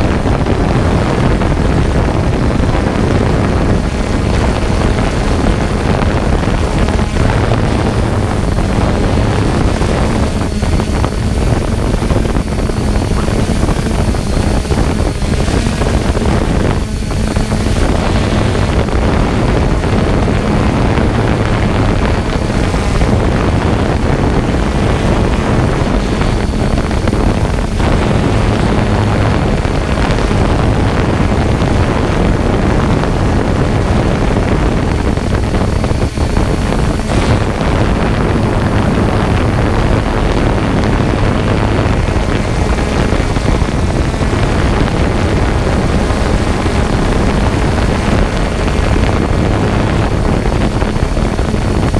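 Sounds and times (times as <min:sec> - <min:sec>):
drone motors and propellers humming: 0:00.0 - 0:51.9
wind rushing over microphone: 0:00.0 - 0:51.9.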